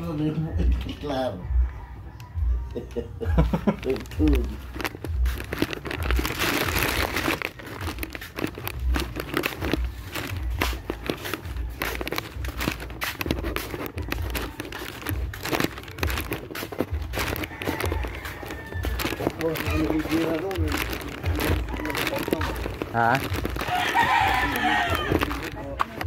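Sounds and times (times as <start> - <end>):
footsteps walking: 3.2 - 26.0.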